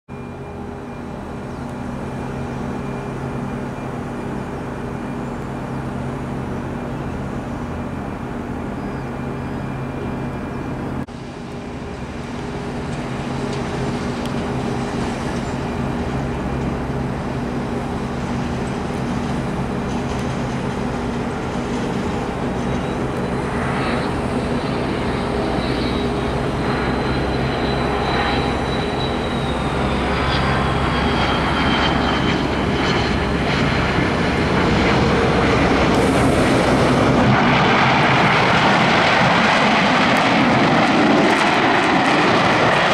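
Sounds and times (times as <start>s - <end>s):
high turbine whine: 0.1s - 42.9s
jetliner engines on approach: 0.1s - 42.9s.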